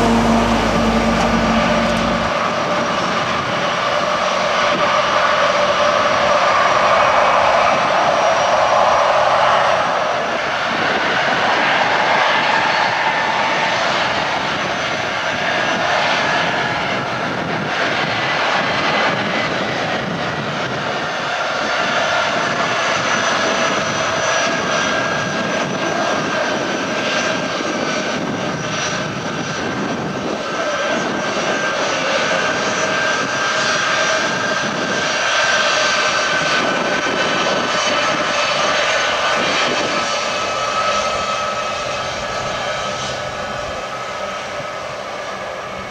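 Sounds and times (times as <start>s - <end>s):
jet engines whining: 0.0s - 45.9s.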